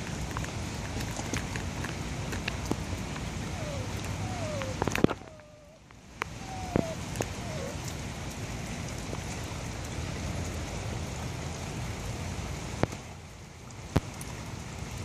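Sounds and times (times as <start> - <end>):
heavy rain on cars and pavement: 0.0 - 15.0.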